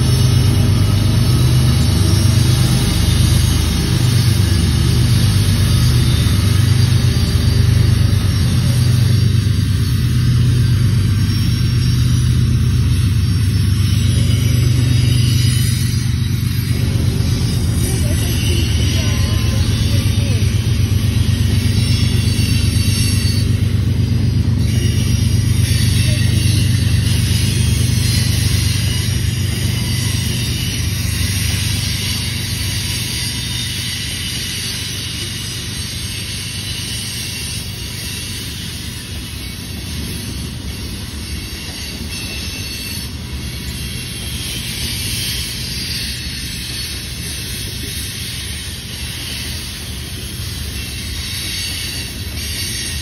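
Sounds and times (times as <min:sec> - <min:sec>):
freight train rumbling past: 0:00.0 - 0:53.0.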